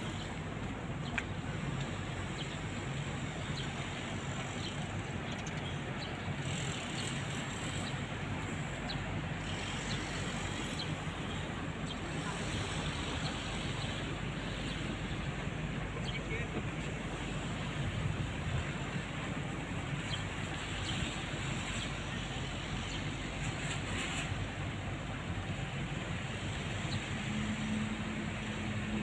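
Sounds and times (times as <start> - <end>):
distant traffic hum: 0.0 - 29.0.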